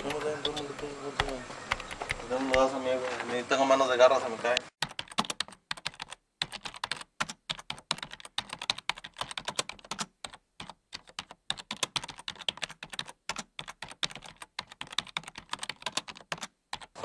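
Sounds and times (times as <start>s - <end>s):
computer keyboard typing: 0.0s - 2.8s, 4.8s - 17.0s.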